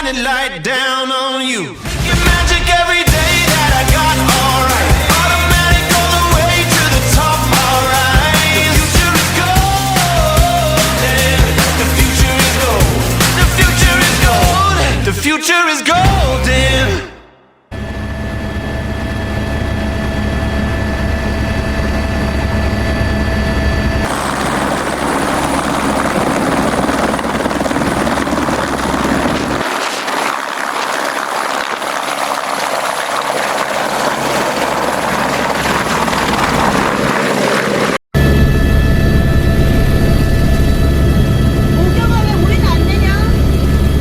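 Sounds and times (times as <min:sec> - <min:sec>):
helicopter rotor beat: 0:03.1 - 0:15.1, 0:17.7 - 0:44.0
helicopter turbine whine: 0:03.1 - 0:15.1, 0:17.7 - 0:44.0.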